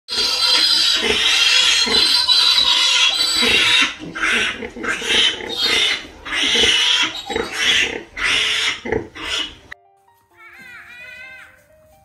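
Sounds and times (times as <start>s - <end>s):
piglets squealing: 0.1s - 9.8s.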